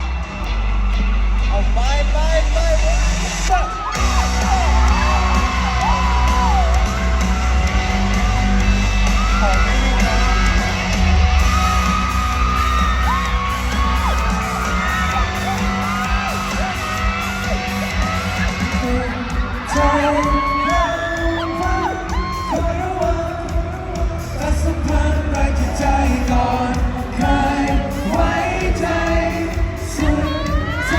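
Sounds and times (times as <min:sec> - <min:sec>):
crowd screaming and whooping: 0:00.0 - 0:30.9
loud pop music with heavy bass: 0:00.0 - 0:30.9.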